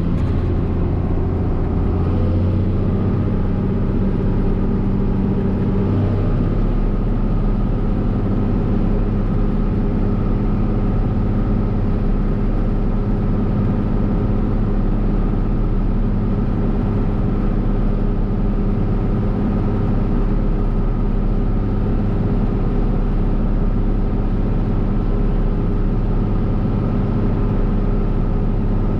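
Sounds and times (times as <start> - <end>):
diesel engine droning: 0.0 - 28.9.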